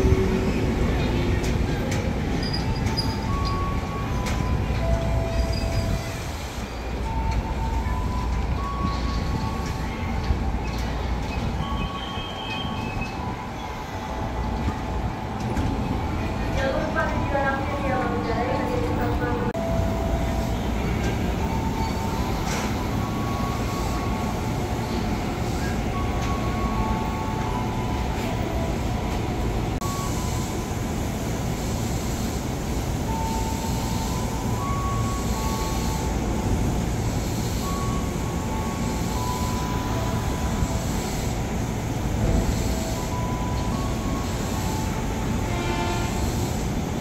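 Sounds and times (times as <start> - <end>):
train equipment hum and rumble: 0.0 - 47.0.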